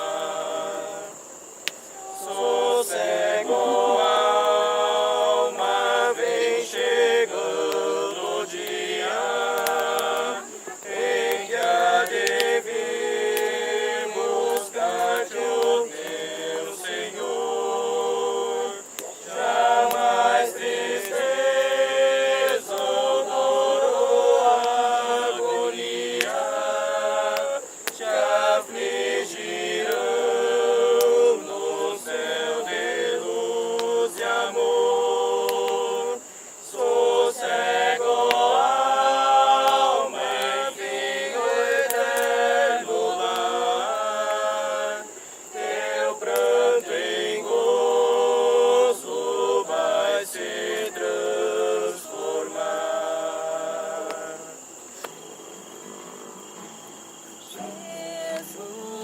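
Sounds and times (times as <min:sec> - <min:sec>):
group singing unaccompanied: 0:00.0 - 0:59.0.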